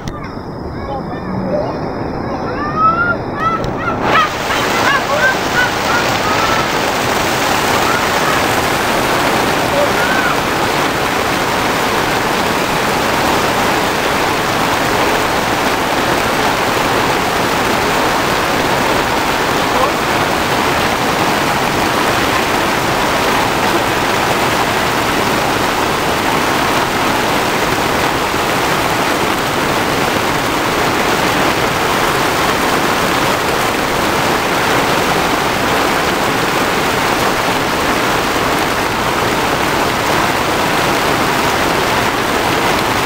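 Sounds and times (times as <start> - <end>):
rain pouring: 0.0 - 43.0.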